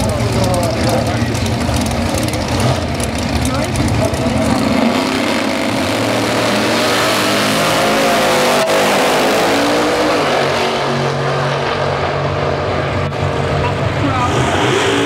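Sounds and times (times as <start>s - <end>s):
drag racing cars at full throttle: 0.0s - 15.0s.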